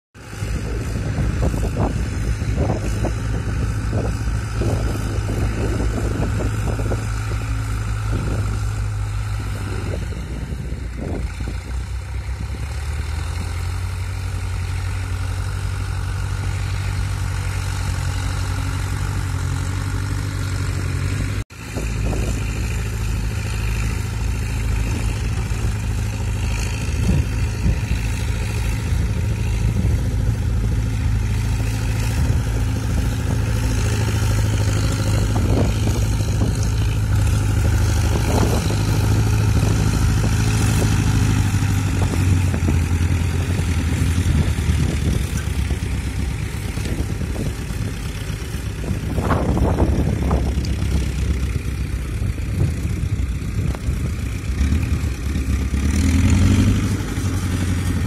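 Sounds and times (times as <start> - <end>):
tractor diesel engines running: 0.2 - 58.0.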